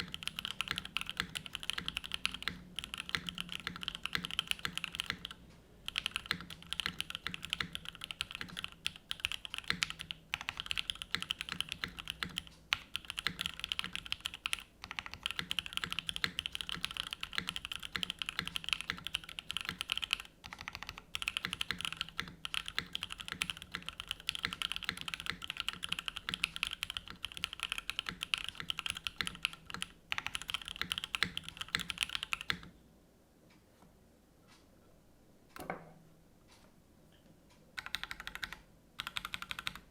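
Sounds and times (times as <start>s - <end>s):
mechanical keyboard typing: 0.0s - 32.8s, 37.8s - 39.9s.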